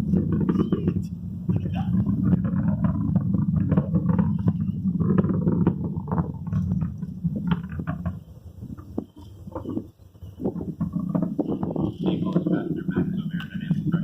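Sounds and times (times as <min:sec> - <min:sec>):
distant rocket engines rumbling: 0:00.0 - 0:14.0.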